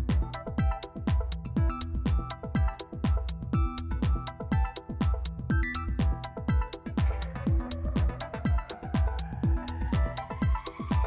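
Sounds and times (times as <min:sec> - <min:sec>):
electronic dance music: 0:00.0 - 0:11.0
steady kick drum: 0:00.0 - 0:11.0.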